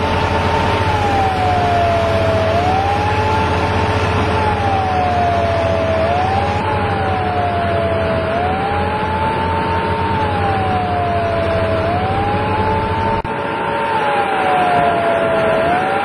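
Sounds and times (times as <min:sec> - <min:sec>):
fire truck engine and pump drone: 0:00.0 - 0:16.0
siren wailing: 0:00.0 - 0:16.0.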